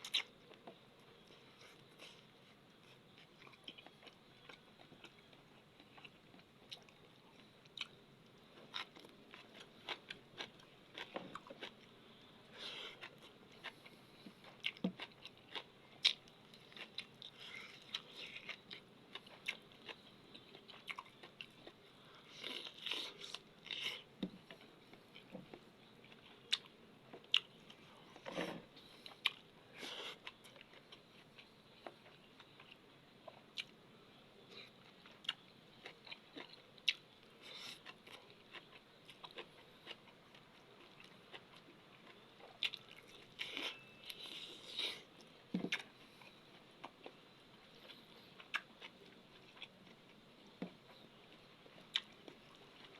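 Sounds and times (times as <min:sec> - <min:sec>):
crunchy chewing: 0:00.0 - 0:33.8, 0:34.4 - 0:52.9.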